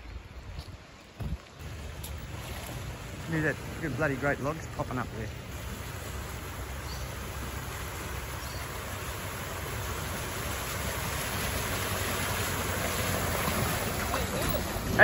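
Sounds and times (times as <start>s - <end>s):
floodwater rushing: 0.0s - 15.0s
tyres splashing through water: 1.0s - 15.0s
vehicle engine running: 1.6s - 15.0s.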